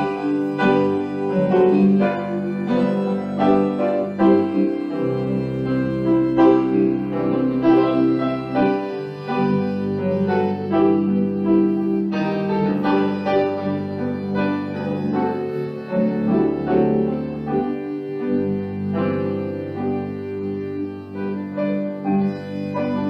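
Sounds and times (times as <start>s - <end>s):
held organ notes: 0.0s - 23.0s
piano chords: 0.0s - 23.0s.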